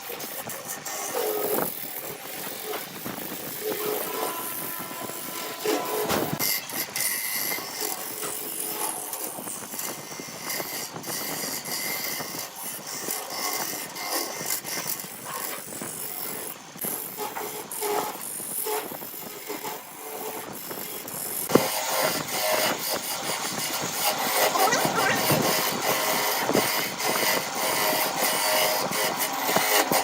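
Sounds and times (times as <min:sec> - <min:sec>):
wood lathe scraping hiss: 0:00.0 - 0:30.0.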